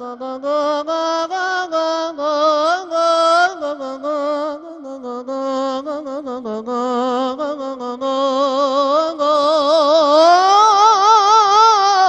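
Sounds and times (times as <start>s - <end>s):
man singing religious chant: 0.0s - 12.0s.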